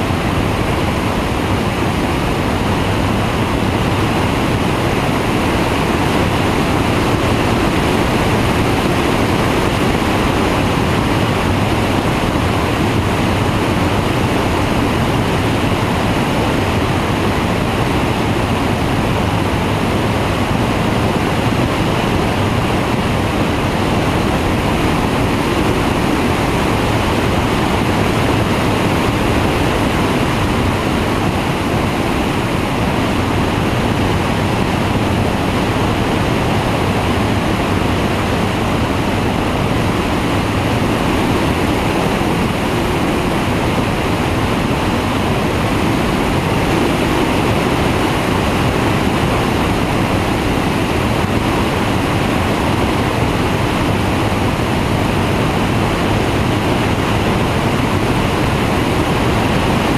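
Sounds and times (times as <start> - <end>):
engine and propeller drone: 0.0 - 59.9.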